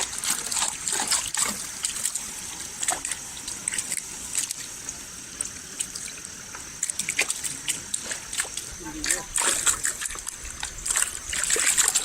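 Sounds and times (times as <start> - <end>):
river water running: 0.0 - 12.0
small water splashes: 0.0 - 12.0.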